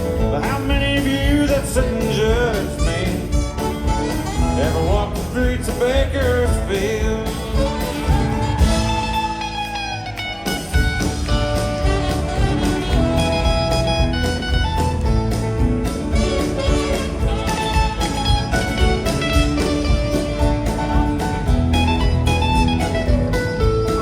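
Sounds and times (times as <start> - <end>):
lead guitar: 0.0 - 24.0
live country band playing: 0.0 - 24.0.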